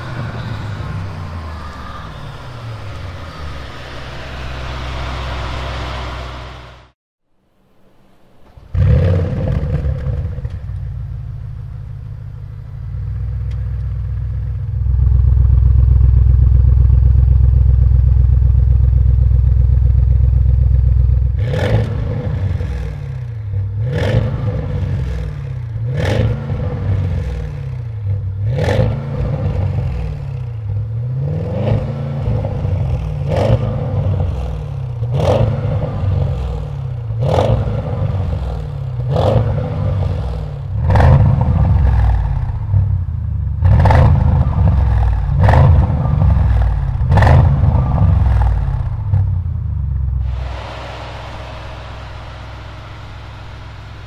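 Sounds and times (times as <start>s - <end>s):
car engine idling and revving: 0.0s - 7.0s, 7.7s - 54.0s.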